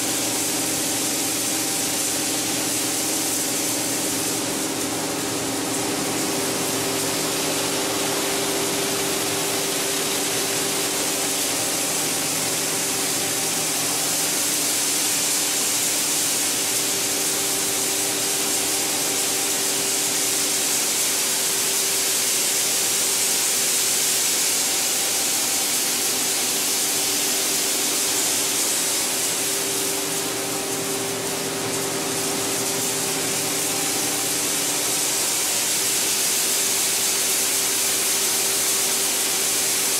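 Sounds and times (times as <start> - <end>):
water spraying and flakes churning: 0.2 - 39.9.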